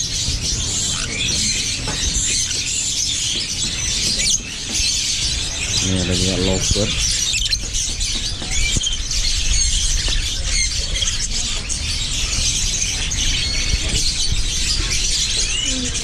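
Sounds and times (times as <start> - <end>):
lovebirds squawking and chirping: 0.0 - 16.0.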